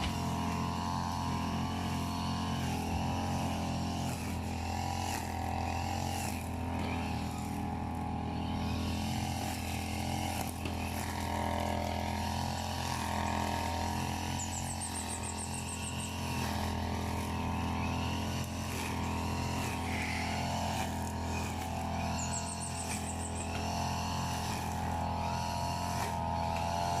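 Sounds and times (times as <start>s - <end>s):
brush cutter engine running: 0.0s - 27.0s.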